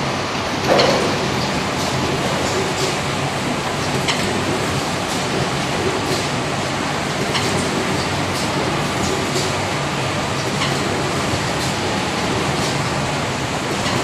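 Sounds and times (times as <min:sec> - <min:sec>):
factory machinery running: 0:00.0 - 0:14.0.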